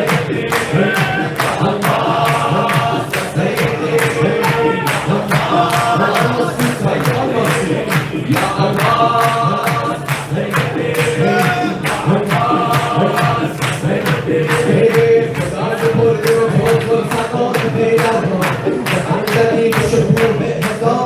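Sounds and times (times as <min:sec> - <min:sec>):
man chanting into a microphone: 0:00.0 - 0:13.5, 0:14.6 - 0:21.0
steady hand-claps: 0:00.0 - 0:21.0.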